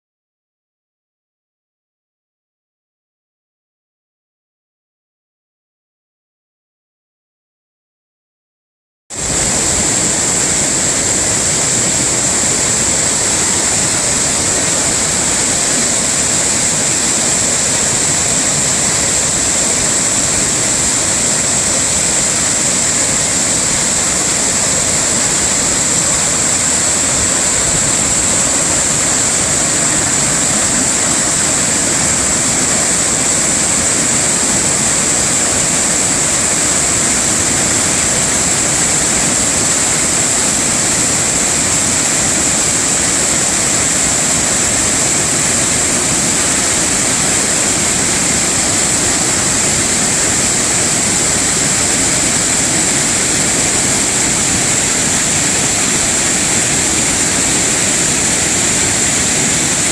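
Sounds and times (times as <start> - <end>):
waterfall rushing: 9.1 - 59.9.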